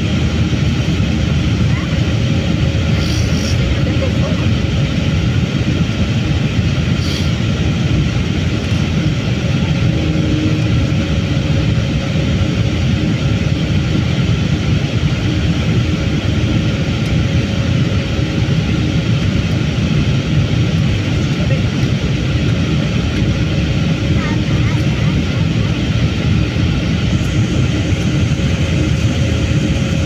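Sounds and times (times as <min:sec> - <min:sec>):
airplane cabin engine rush: 0:00.0 - 0:30.0.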